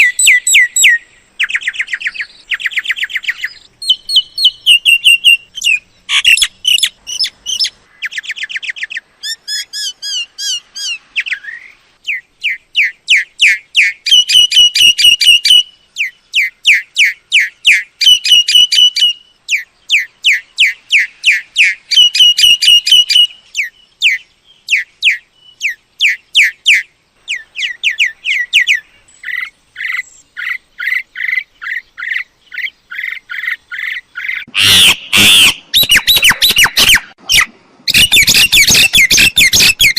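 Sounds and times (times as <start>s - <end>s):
myna whistled chirps: 0.0s - 39.9s.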